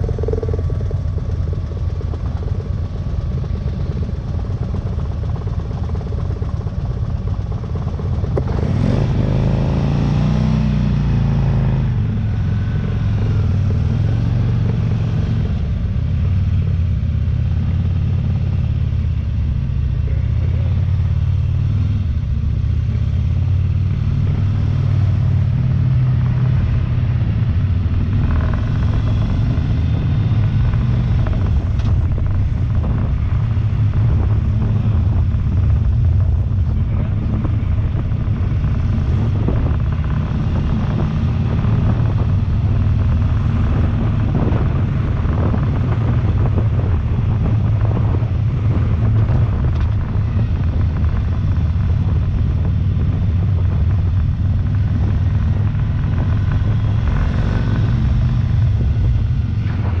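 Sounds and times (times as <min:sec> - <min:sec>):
motorcycle engine cruising: 0:00.0 - 1:00.0
wind noise on microphone: 0:00.0 - 1:00.0.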